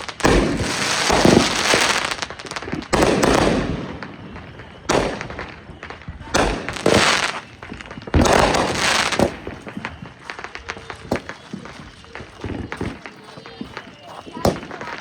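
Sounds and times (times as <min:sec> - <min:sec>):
firework crackle and pops: 0:00.0 - 0:15.0
loud firework bangs: 0:00.0 - 0:15.0.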